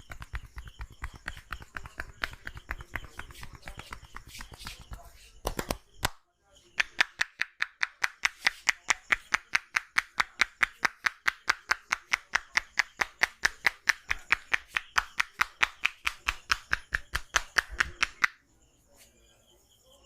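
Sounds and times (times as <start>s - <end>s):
hands clapping on head: 0.0s - 6.2s, 6.8s - 18.4s.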